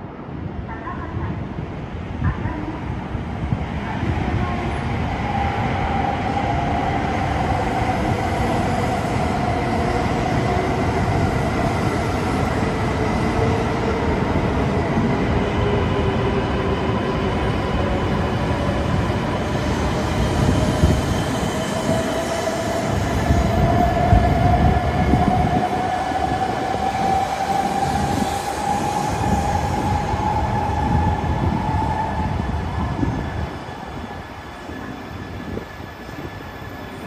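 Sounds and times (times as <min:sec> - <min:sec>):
train wheels rumbling on rail: 0:00.8 - 0:37.0.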